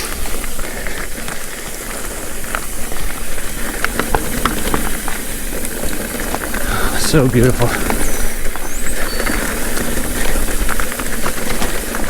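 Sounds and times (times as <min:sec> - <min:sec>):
bike clicks and rattles: 0:00.0 - 0:12.0
tyre and wind noise: 0:00.0 - 0:12.0.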